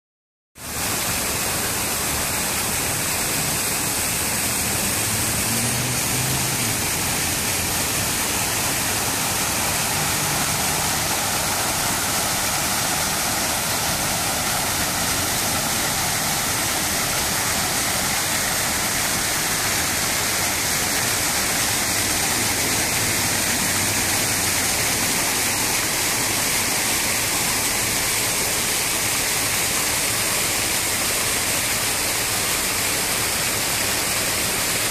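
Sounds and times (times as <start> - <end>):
fountain water splashing: 0.6 - 34.9.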